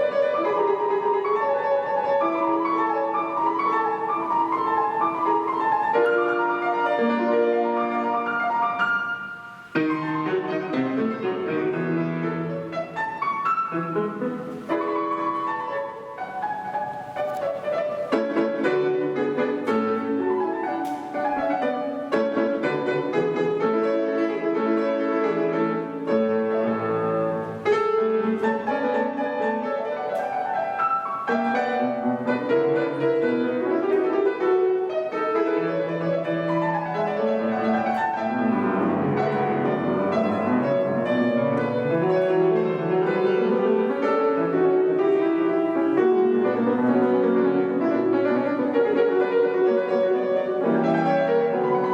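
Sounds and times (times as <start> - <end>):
solo classical piano: 0.0 - 51.9.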